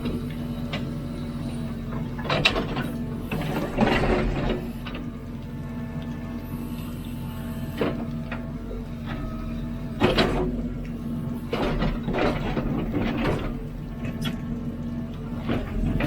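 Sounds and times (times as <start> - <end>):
backhoe diesel engine running: 0.0 - 16.0.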